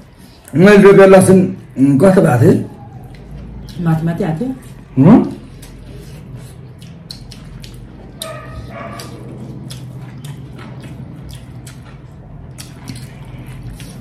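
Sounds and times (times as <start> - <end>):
fingers squishing food on plates: 1.6 - 14.0
chewing and lip-smacking: 2.7 - 14.0.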